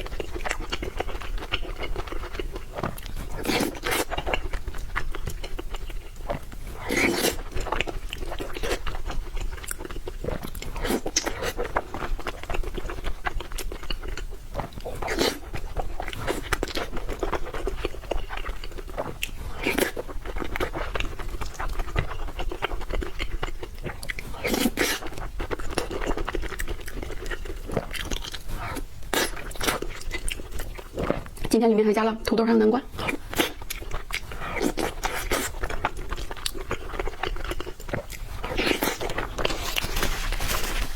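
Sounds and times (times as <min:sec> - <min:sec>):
person chewing crunchy food: 0:00.0 - 0:31.5, 0:32.9 - 0:40.9.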